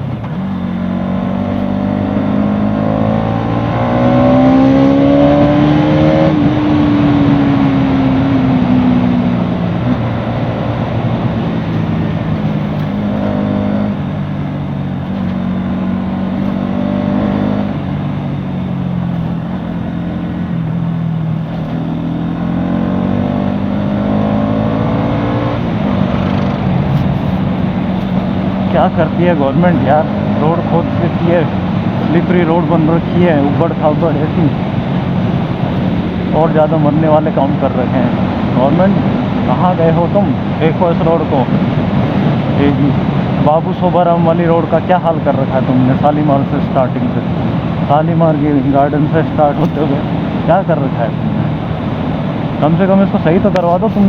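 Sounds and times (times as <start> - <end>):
steady rushing noise: 0.0 - 54.0
motorcycle engine running: 4.5 - 54.0.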